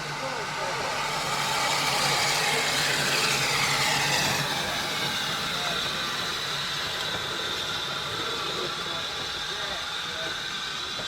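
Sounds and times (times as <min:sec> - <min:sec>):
train rolling on track: 0:00.0 - 0:11.0
wheels squealing: 0:00.0 - 0:11.0.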